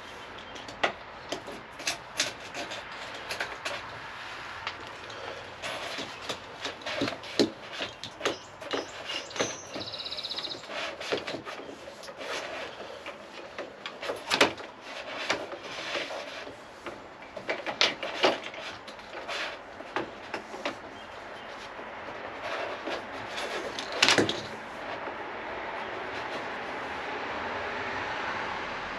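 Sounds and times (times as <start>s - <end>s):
tools knocking and clunking: 0.3s - 25.3s.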